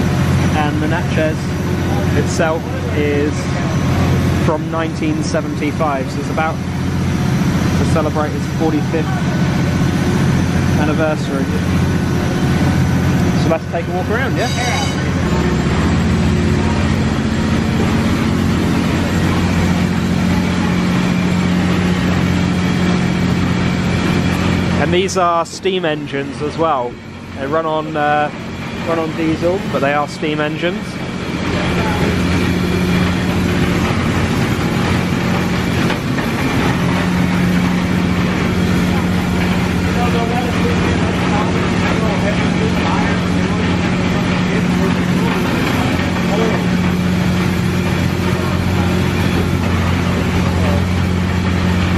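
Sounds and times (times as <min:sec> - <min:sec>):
constant low hum: 0:00.0 - 0:51.9
engine room machinery din: 0:00.0 - 0:51.9.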